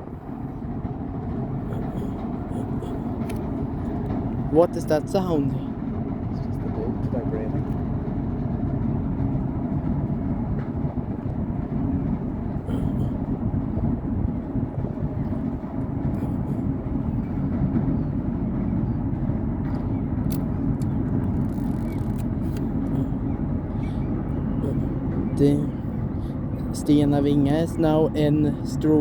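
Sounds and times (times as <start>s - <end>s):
ship engine rumble: 0.0s - 29.0s.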